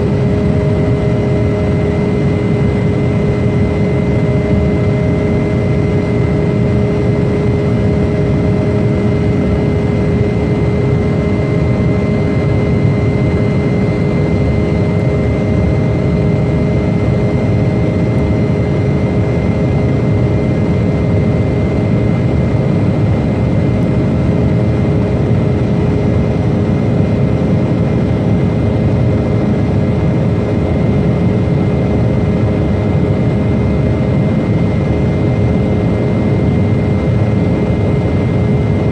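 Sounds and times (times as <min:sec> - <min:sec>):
jet engines rumbling and whining: 0:00.0 - 0:38.9.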